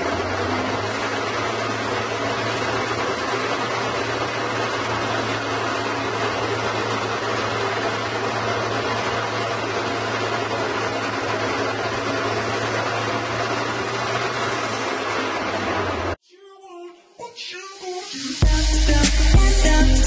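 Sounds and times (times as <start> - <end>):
band saw cutting log: 0.0 - 16.2.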